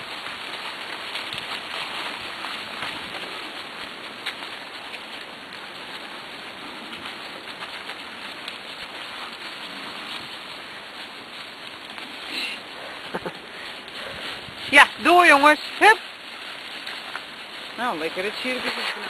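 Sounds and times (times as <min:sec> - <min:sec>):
rig wheels hissing on wet trail: 0:00.0 - 0:19.0.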